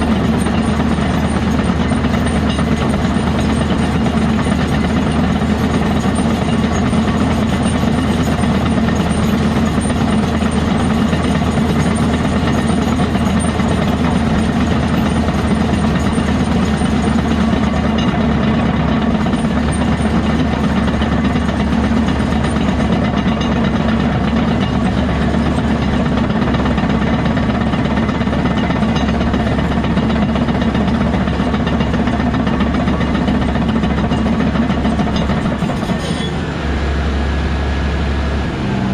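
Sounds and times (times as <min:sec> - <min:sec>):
heavy machinery diesel engine drone: 0:00.0 - 0:38.9.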